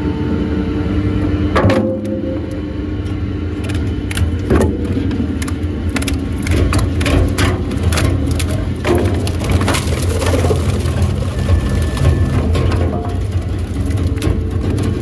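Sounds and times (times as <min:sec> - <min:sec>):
wood chipper rotor humming: 0:00.0 - 0:15.0
wood cracking and snapping: 0:01.8 - 0:15.0.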